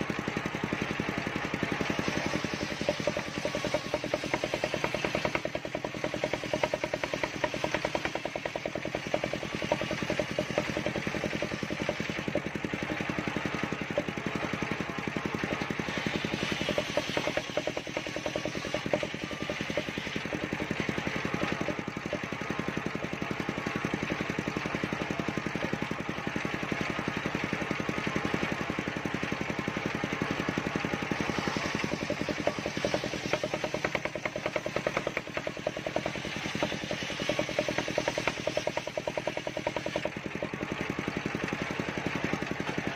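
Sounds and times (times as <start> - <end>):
circular saw engine running: 0.0 - 42.9.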